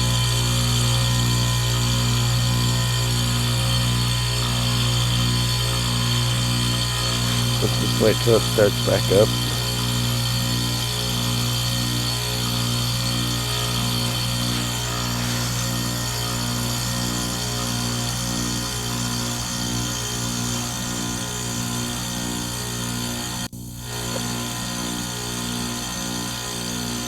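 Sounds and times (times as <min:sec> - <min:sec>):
heat pump mechanical hum: 0:00.0 - 0:27.0.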